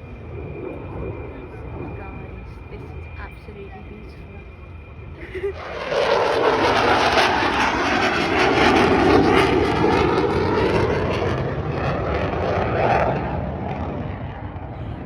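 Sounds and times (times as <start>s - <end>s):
fighter jet flying past: 0.0s - 15.0s.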